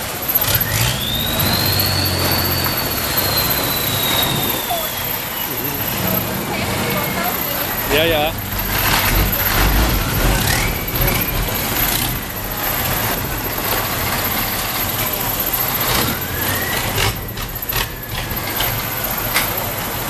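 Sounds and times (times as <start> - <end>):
boat engines rumbling: 0.0 - 20.0.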